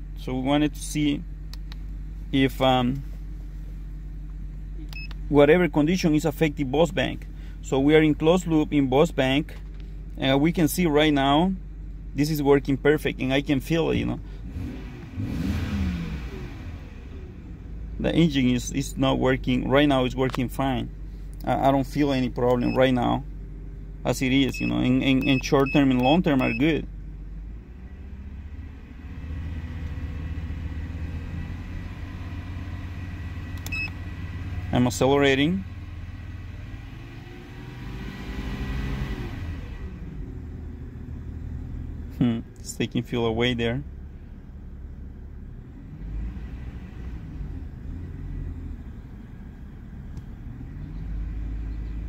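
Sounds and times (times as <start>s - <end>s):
car engine running: 0.0s - 37.8s, 38.8s - 52.0s.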